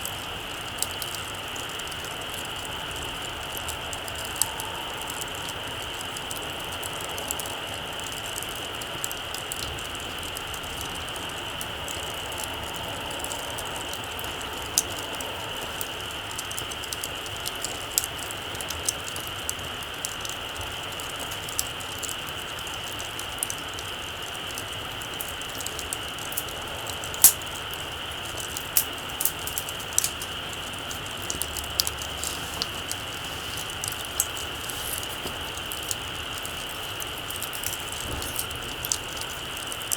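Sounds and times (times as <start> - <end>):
campfire crackling and popping: 0.0 - 39.9
steady high hiss: 0.0 - 39.9.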